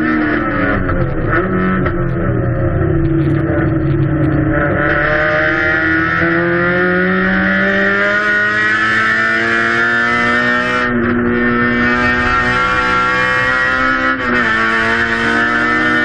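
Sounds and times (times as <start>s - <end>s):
race car engine at full throttle: 0.0s - 16.0s.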